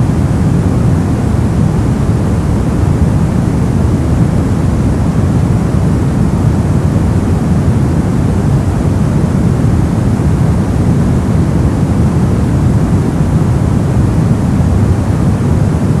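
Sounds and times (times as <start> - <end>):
brown noise: 0.0 - 16.0.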